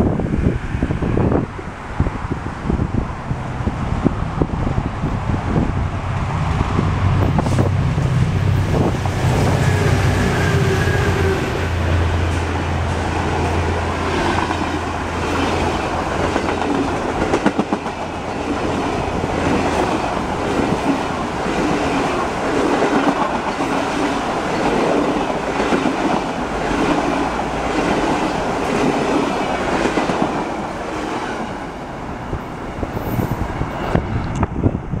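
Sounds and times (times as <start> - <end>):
diesel locomotive drone: 0.0 - 35.0.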